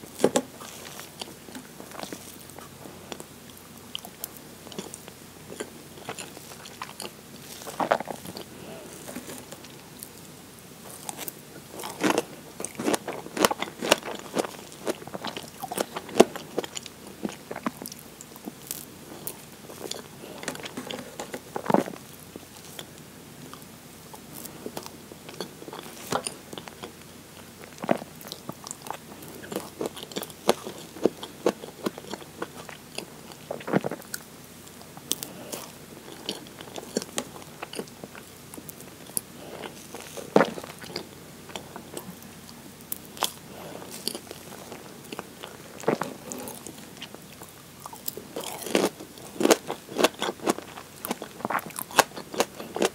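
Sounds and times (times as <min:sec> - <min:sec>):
wet chewing and mouth sounds: 0:00.0 - 0:52.9.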